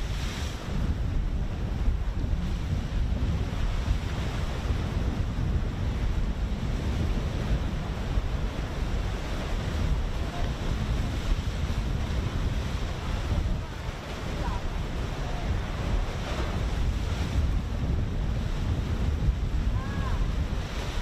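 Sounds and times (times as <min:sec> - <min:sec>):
sea wash: 0:00.0 - 0:21.0
wind buffeting microphone: 0:00.0 - 0:21.0.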